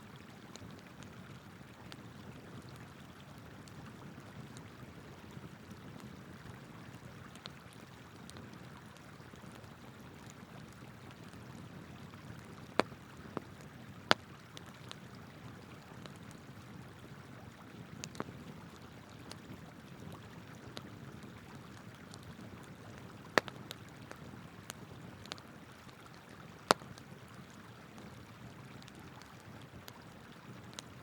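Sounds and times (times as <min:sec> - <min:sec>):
flowing river: 0:00.0 - 0:31.0
campfire crackling and popping: 0:00.2 - 0:31.0.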